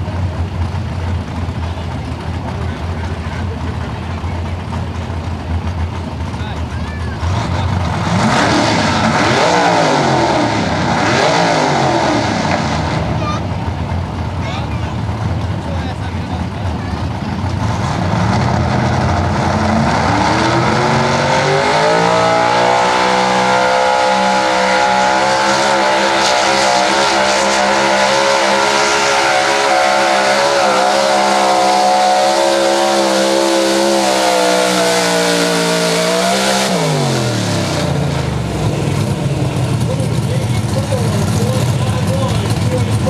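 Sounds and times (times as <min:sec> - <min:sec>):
truck engine revving under load: 0:00.0 - 0:43.0.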